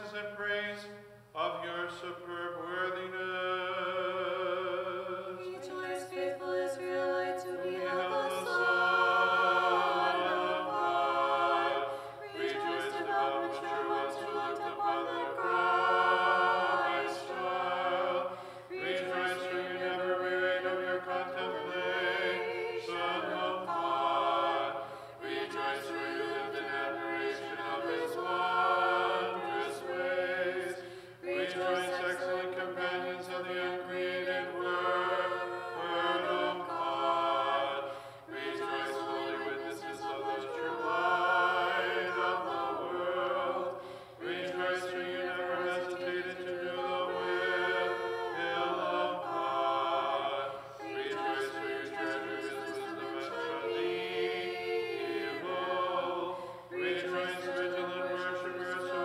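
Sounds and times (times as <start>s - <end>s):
unaccompanied choir chanting: 0.0s - 59.0s.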